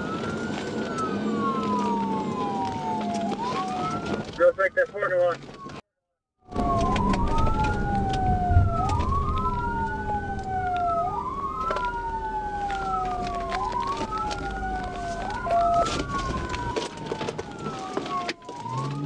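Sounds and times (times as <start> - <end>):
low hum and road noise: 0.0 - 5.8, 6.5 - 19.0
police sirens wailing: 0.0 - 5.8, 6.5 - 19.0.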